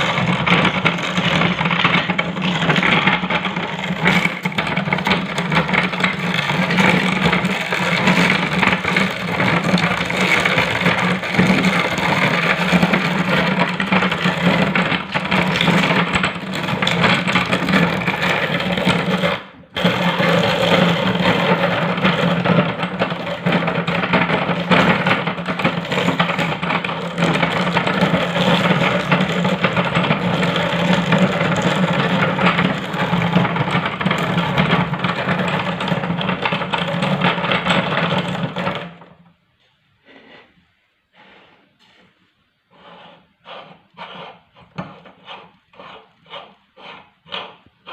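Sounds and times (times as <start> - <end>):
meat grinder motor hum: 0.0 - 39.0.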